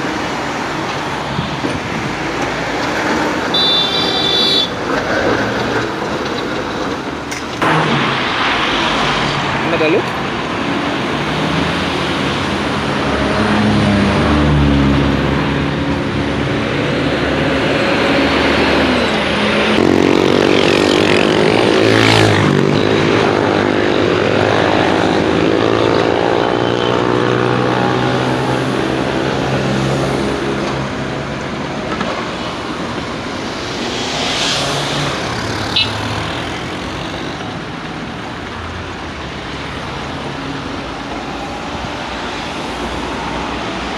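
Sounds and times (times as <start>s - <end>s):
vehicles passing on road: 0.0s - 43.9s.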